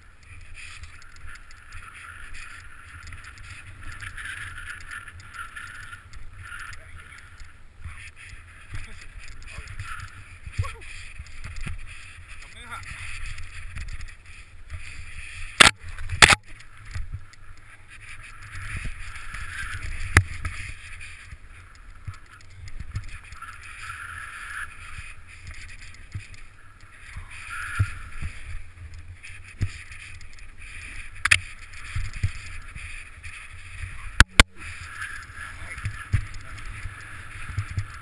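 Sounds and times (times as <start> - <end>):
skis hissing through snow: 0.3 - 15.6, 17.7 - 38.0.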